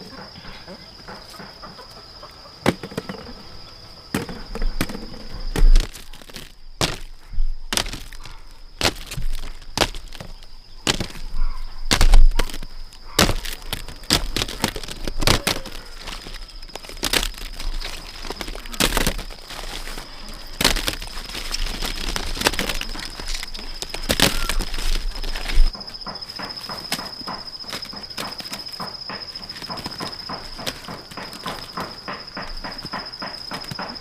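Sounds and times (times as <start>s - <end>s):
dry stalks cracking and snapping: 4.2s - 25.8s, 26.4s - 32.1s
rustling: 4.2s - 33.9s.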